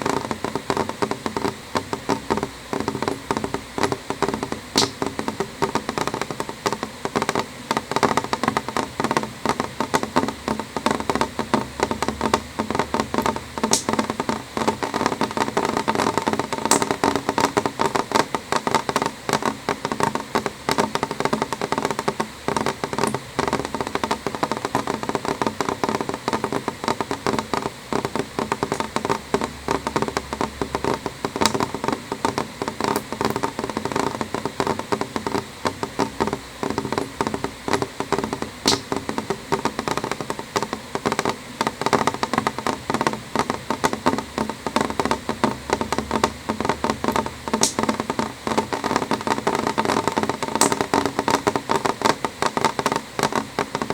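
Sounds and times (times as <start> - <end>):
rain tapping on window glass: 0.0 - 53.9.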